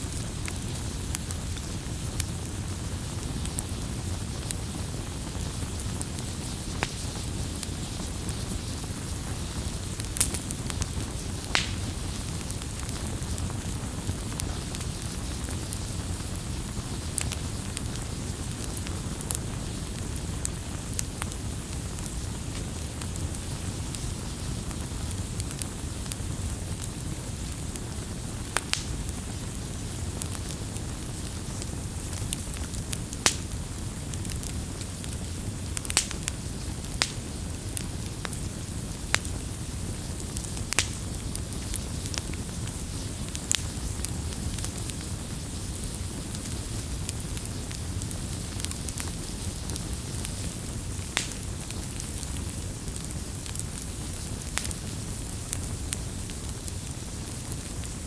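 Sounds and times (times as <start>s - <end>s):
campfire crackling and hissing: 0.0s - 58.0s.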